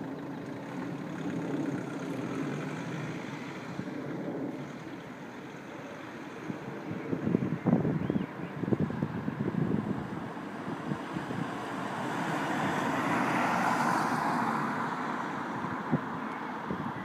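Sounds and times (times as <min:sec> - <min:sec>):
jet airliner roaring past: 0:00.8 - 0:16.4.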